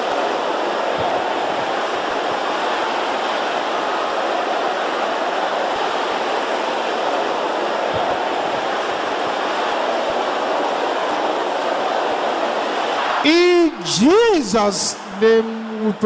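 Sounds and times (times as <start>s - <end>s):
crowd praying aloud: 0.0s - 16.0s.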